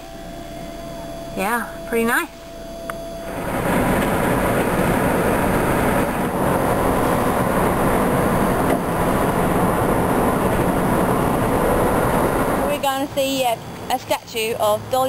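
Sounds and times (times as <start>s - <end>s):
car road and wind noise: 2.6s - 15.0s.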